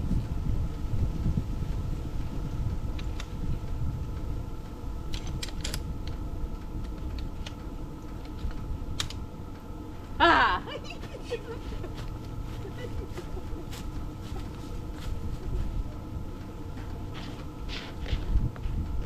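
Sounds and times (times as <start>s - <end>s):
wind rumbling on microphone: 0.0s - 9.4s, 10.0s - 19.0s
faint steady hum: 0.0s - 19.0s.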